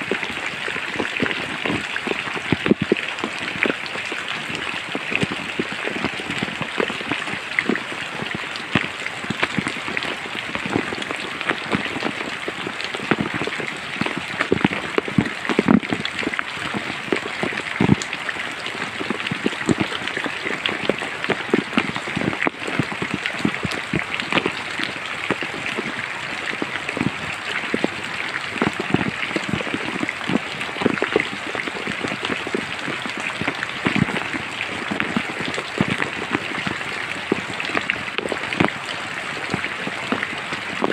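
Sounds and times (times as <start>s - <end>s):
raindrops striking leaves: 0.0s - 40.9s
steady rain hiss: 0.0s - 40.9s.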